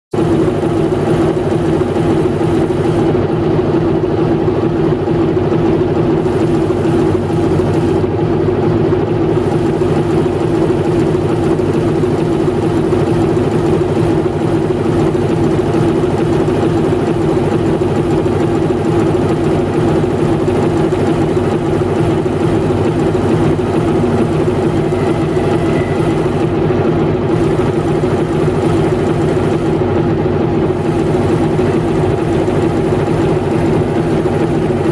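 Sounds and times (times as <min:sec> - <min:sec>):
diesel locomotive engine idling: 0:00.1 - 0:34.9.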